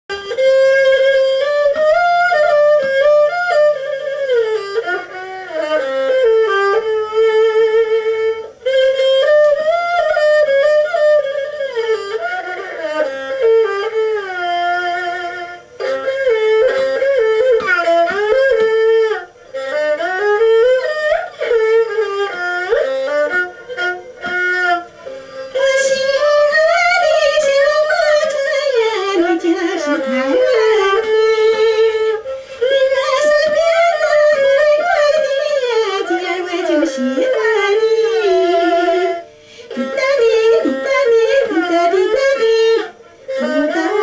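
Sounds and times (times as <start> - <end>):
bowed fiddle melody: 0.1 - 44.0.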